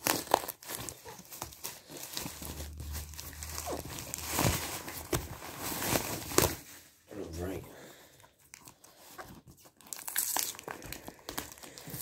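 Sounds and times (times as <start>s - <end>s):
plastic bag crinkling and tearing: 0.0s - 7.0s, 8.4s - 12.0s.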